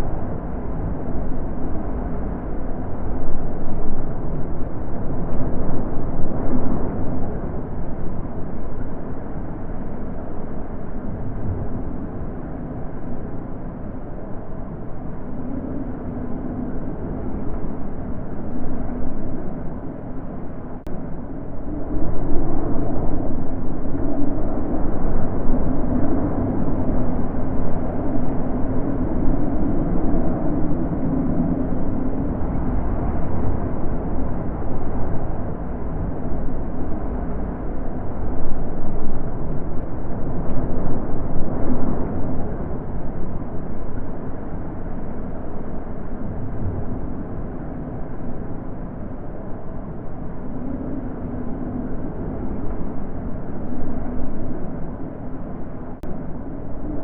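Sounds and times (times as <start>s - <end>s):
wind blowing in gusts: 0.0s - 57.0s.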